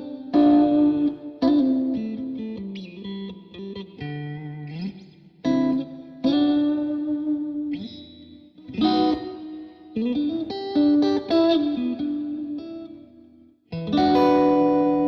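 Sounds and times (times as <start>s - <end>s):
clean electric guitar playing: 0.0s - 15.0s.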